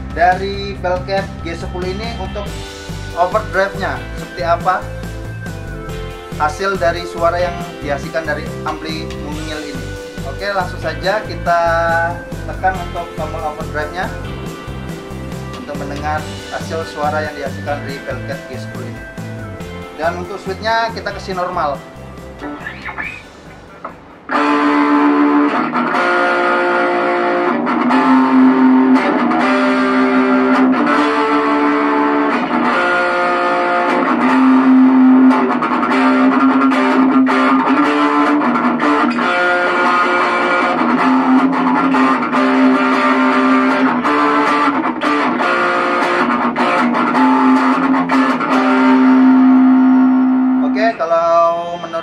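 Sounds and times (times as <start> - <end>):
distorted electric guitar riffs: 0.0 - 52.0.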